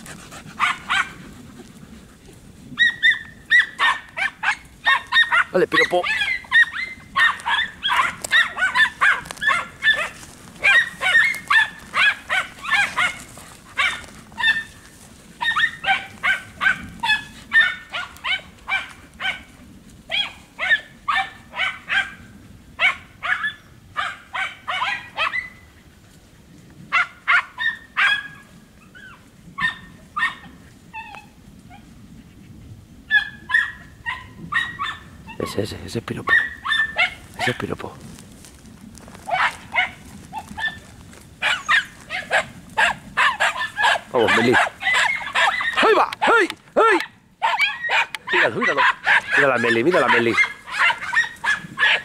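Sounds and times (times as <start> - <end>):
hound yelping barks: 0.1 - 1.3, 2.7 - 25.7, 26.9 - 31.9, 33.1 - 37.8, 39.1 - 52.0.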